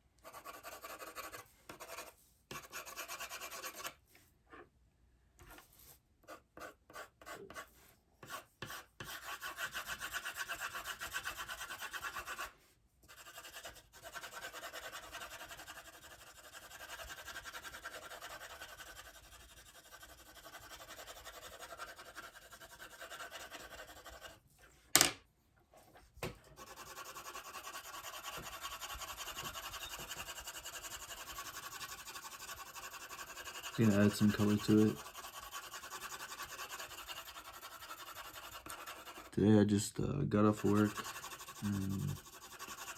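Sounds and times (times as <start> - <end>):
pencil scratching on paper: 0.2 - 4.0, 5.4 - 24.4, 26.3 - 39.4, 40.4 - 42.9.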